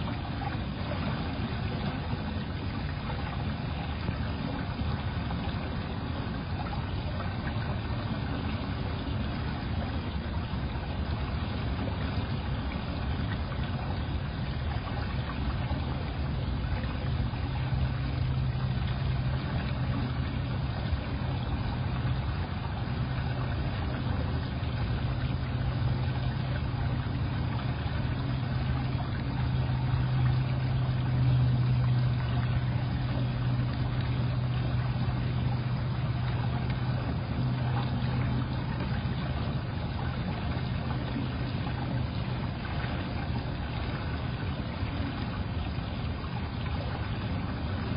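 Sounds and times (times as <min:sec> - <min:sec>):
steady low hum with hiss: 0:00.0 - 0:47.9.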